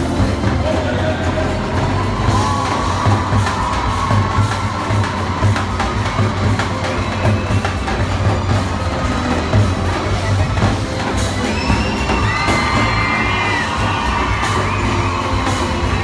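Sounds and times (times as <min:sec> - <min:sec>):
bass drum beaten in steady rhythm: 0:00.0 - 0:16.0
live dance music: 0:00.0 - 0:16.0
audience cheering: 0:00.7 - 0:16.0.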